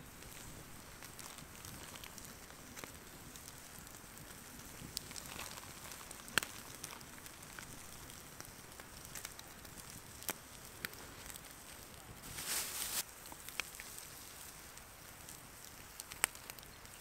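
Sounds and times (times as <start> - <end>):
campfire crackling: 0.0 - 17.0
fire hiss: 0.0 - 17.0.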